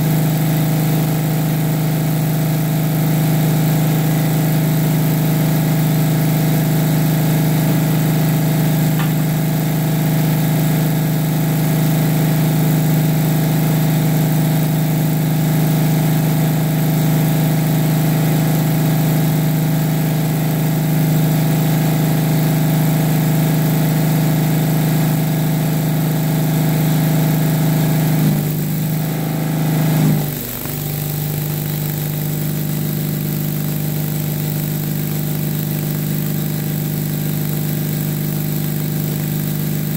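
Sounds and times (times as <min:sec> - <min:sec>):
welder engine running: 0:00.0 - 0:39.9.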